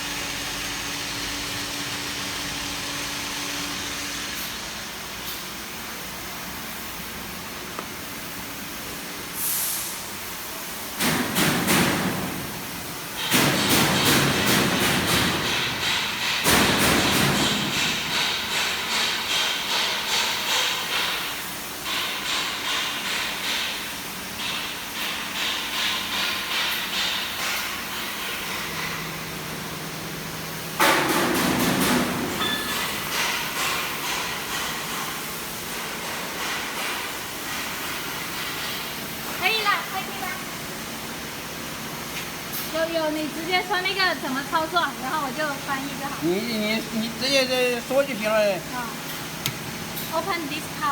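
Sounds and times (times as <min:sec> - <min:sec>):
machinery hiss: 0:00.3 - 0:50.9.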